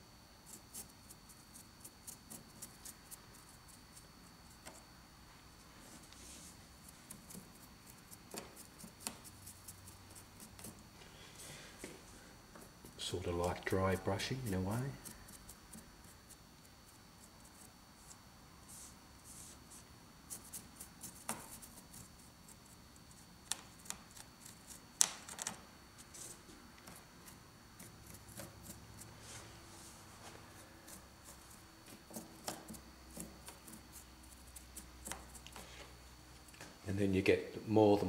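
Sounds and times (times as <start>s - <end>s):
paintbrush scratching on model rock: 0.4s - 4.9s, 5.8s - 10.9s, 12.6s - 24.9s, 26.0s - 35.6s.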